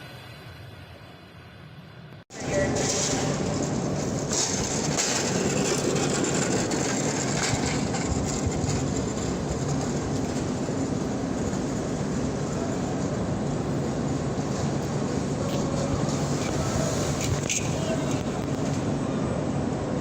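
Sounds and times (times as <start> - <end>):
train rumbling: 0.9 - 20.0.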